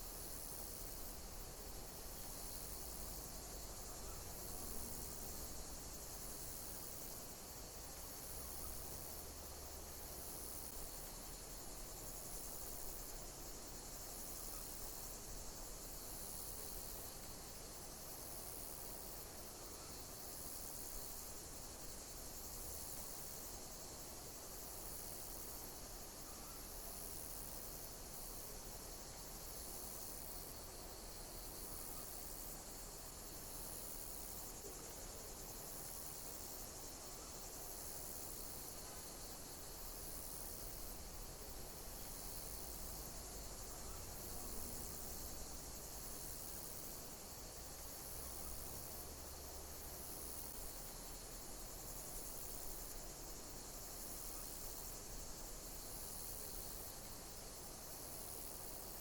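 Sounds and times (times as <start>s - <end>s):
insects chirping in chorus: 0.0s - 59.0s.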